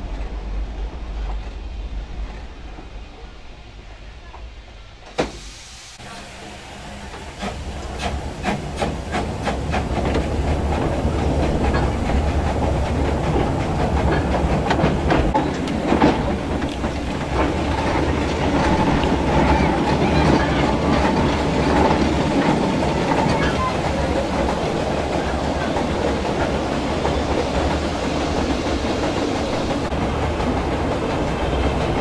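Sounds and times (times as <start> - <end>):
steam locomotive clattering on track: 0.0 - 32.0.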